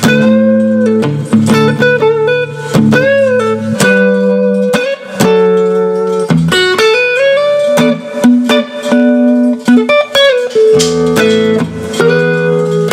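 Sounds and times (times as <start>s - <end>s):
electric guitar notes and chords: 0.0s - 12.9s.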